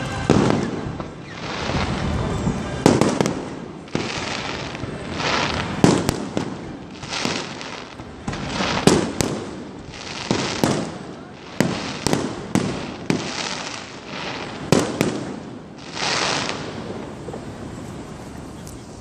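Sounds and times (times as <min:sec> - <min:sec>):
continuous noisy wash: 0:00.0 - 0:19.0.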